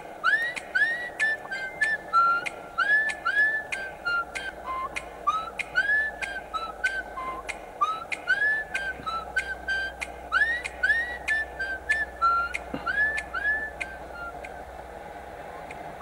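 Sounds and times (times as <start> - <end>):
birds whistling: 0.2 - 14.5
sharp clicking ticks: 0.4 - 14.6.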